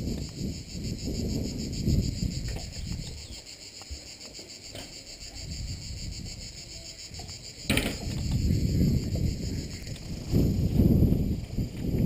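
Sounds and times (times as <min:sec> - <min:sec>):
wind rumble on microphone: 0:00.0 - 0:04.0, 0:05.1 - 0:12.0
high-pitched insect chorus: 0:00.0 - 0:12.0.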